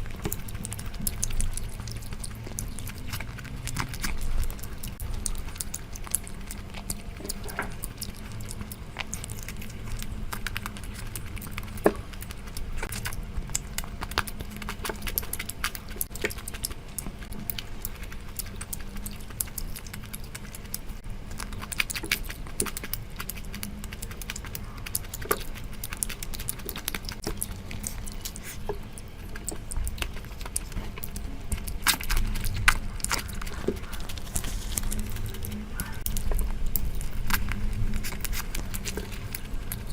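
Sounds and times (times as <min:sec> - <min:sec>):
steady low hum: 0:00.0 - 0:39.9
wet chewing and mouth smacks: 0:00.0 - 0:39.9.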